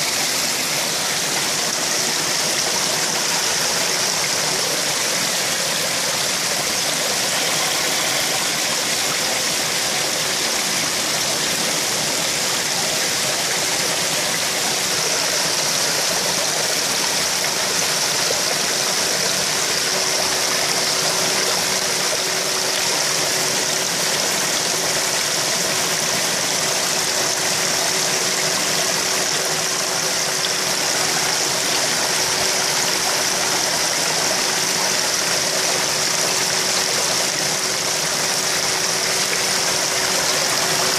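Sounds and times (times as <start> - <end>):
faint steady hum: 0.0 - 40.9
pond water rushing and bubbling: 0.0 - 40.9.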